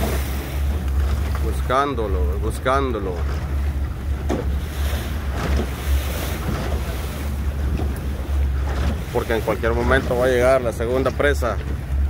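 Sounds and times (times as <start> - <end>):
steady low rumble: 0.0 - 12.0
water rushing past boat: 0.0 - 12.0.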